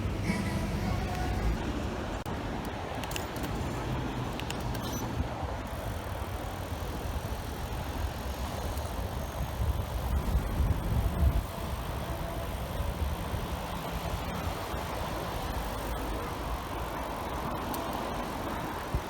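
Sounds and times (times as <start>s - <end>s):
road and traffic noise: 0.0s - 19.0s
wind rumbling on microphone: 0.0s - 19.0s.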